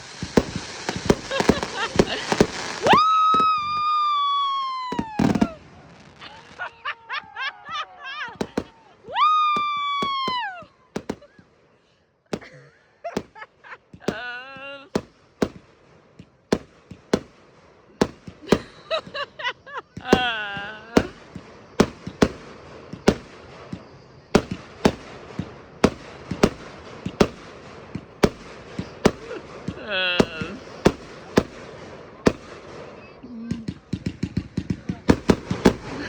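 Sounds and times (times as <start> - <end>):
fireworks bangs and cracks: 0.0 - 36.0.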